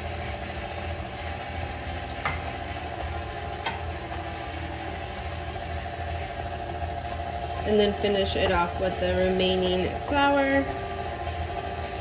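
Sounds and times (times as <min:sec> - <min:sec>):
stand mixer churning batter: 0:00.0 - 0:12.0.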